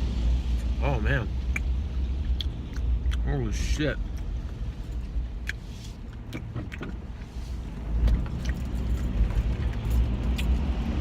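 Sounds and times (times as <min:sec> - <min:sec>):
car road rumble inside cabin: 0:00.0 - 0:11.0.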